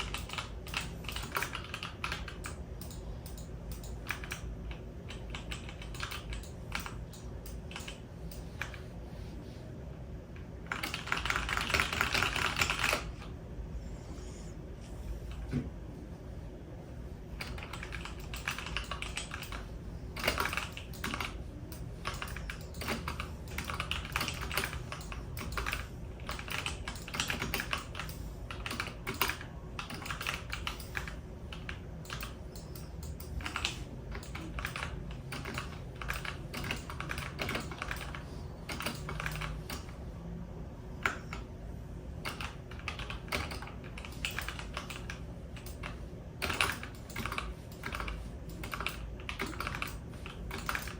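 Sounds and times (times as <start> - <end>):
typing on a keyboard: 0.0 - 8.8, 10.7 - 13.1, 17.4 - 40.0, 42.2 - 50.9
faint low hum: 0.0 - 50.9.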